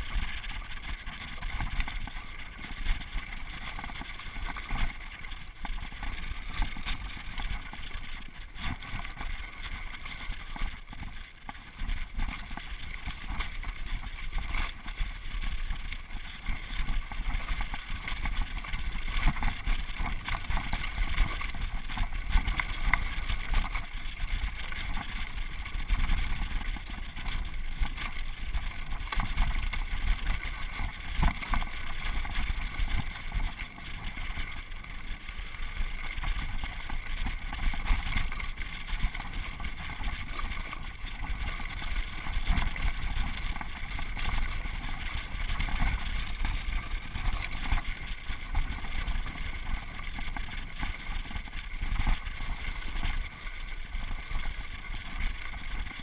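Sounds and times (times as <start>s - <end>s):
bike rattling: 0.0s - 56.0s.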